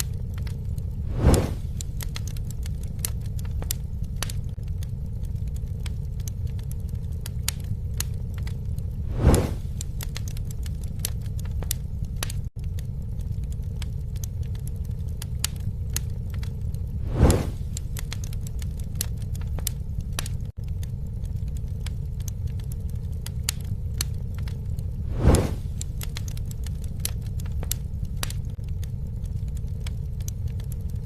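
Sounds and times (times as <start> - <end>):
fire whoosh: 0.0 - 31.0
low rumble: 0.0 - 31.0
wood fire crackling and popping: 0.0 - 31.0.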